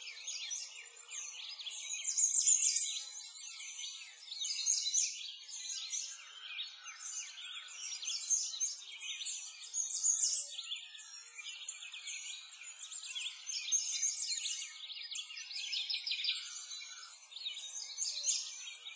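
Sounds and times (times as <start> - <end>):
many small birds chirping: 0.0 - 18.9.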